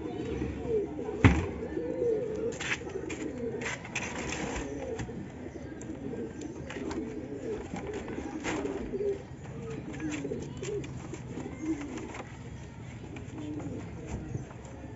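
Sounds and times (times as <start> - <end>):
pigeons cooing: 0.0 - 14.9.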